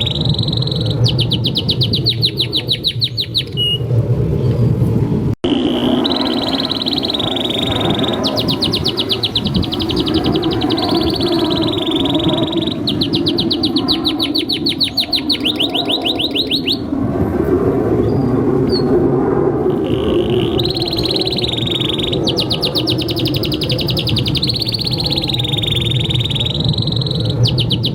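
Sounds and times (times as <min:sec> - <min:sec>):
canary singing trills: 0:00.0 - 0:03.8, 0:05.4 - 0:16.9, 0:19.7 - 0:27.9.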